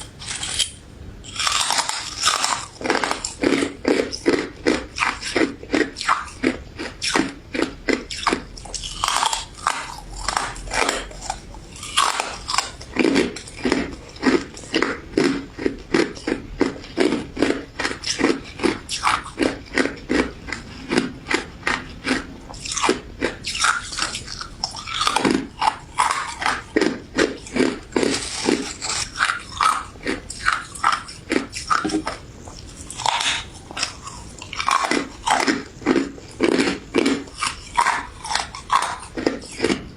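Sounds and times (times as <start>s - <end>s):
crunchy ice dessert chewing: 0.0s - 39.9s.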